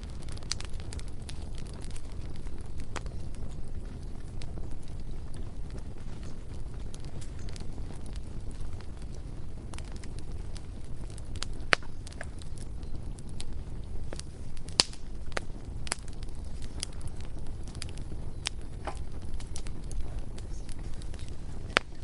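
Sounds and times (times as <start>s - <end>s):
bonfire popping and snapping: 0.0s - 22.0s
low fire rumble: 0.0s - 22.0s.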